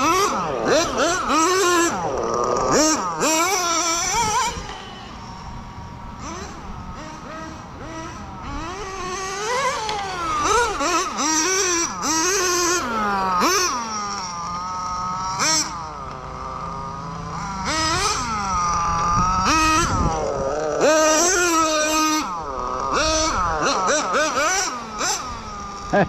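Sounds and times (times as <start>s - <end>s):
small two-stroke engine revving: 0.0s - 26.0s.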